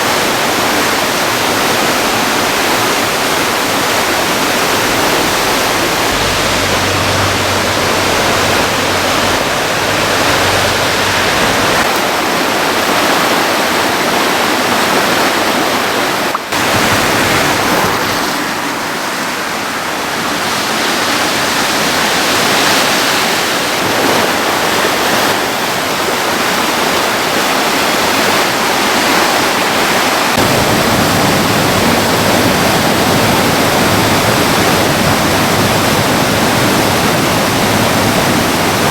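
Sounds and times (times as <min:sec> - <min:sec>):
river rushing in flood: 0:00.0 - 0:38.9.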